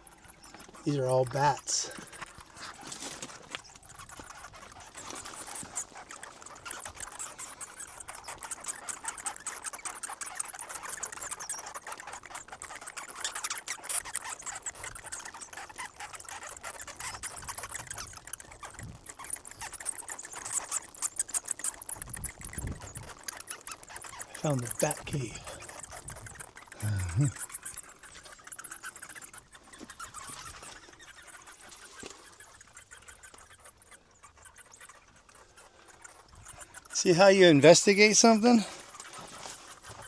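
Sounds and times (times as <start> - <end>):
bats squeaking and chittering: 0.0 - 40.0.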